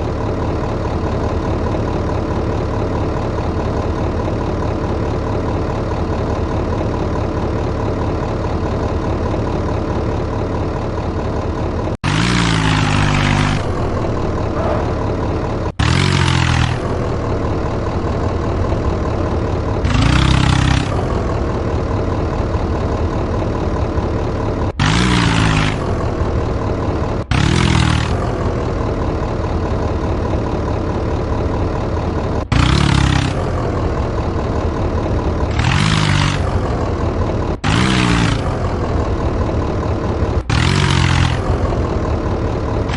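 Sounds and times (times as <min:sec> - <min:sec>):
tractor engine idling and revving: 0:00.0 - 0:42.9.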